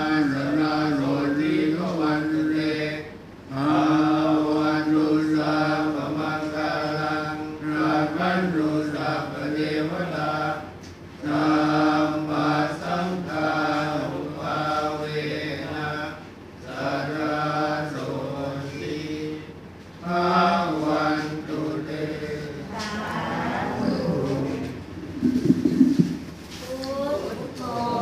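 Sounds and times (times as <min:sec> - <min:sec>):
monks chanting: 0:00.0 - 0:26.3.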